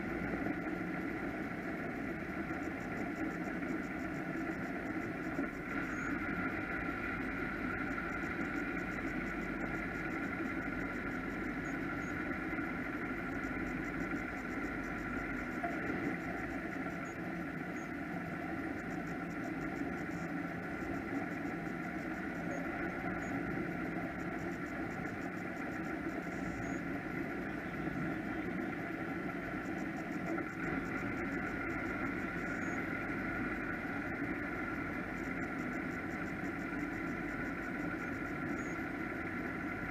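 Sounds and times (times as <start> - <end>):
powerboat engines idling: 0.0 - 39.9.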